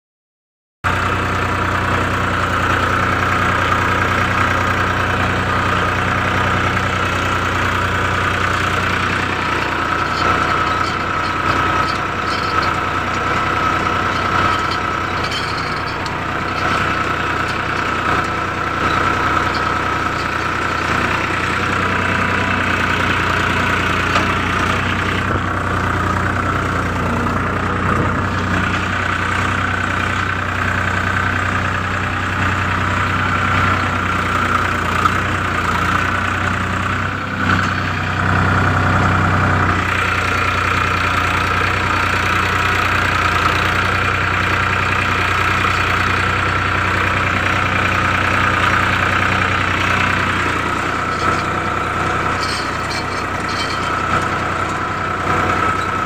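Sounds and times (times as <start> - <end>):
tractor diesel engine running: 0.8 - 56.0.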